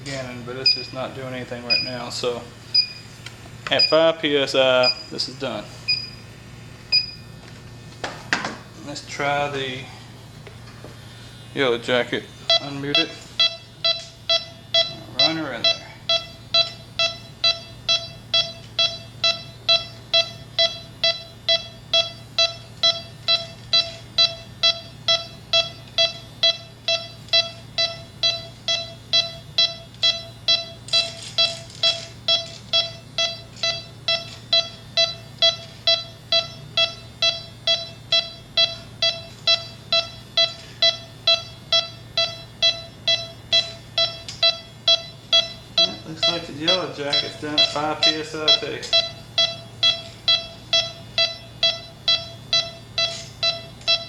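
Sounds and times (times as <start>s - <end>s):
leak detector beeping: 0.2s - 7.4s, 12.4s - 54.0s.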